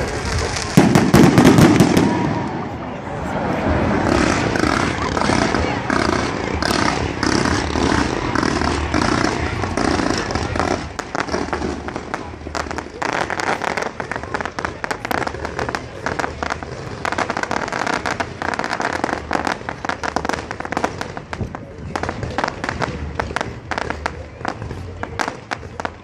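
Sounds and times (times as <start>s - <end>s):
fireworks crackling: 0.0s - 26.0s.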